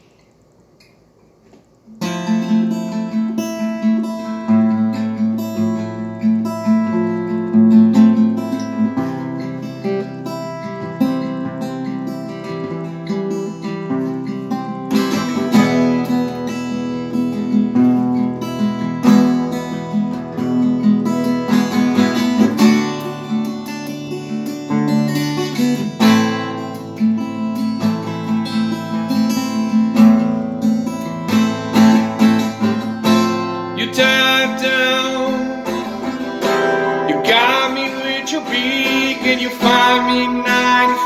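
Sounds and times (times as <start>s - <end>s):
acoustic guitar strumming: 1.9s - 41.0s.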